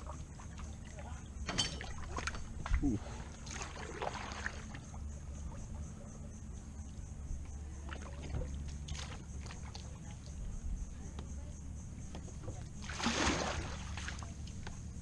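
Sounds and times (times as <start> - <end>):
low steady rumble: 0.0 - 15.0
water lapping around kayak hull: 0.0 - 15.0.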